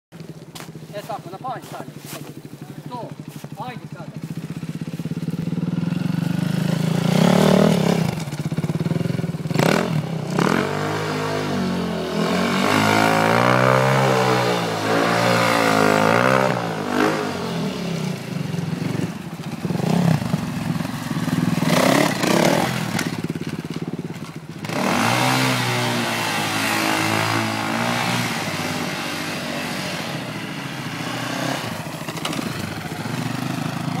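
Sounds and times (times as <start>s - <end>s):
dirt bike engines revving: 0.2s - 34.0s.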